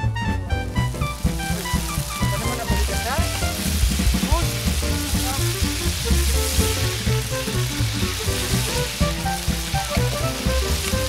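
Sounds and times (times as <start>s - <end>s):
background music with bass: 0.0s - 11.0s
meat sizzling in oil: 0.6s - 11.0s.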